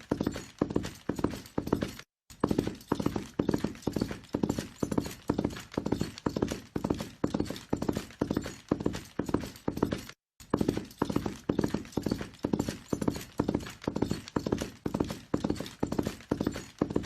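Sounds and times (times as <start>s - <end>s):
horse hooves galloping: 0.0s - 17.0s.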